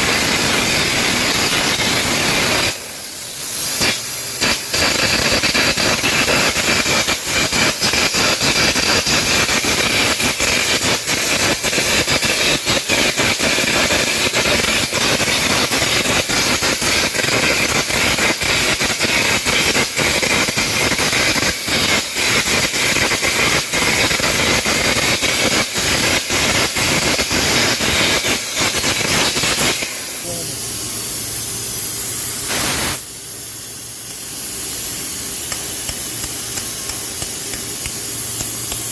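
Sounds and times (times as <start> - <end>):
arc crackling and popping: 0.0 - 30.4, 34.0 - 38.9
compressed air hissing: 0.0 - 38.9.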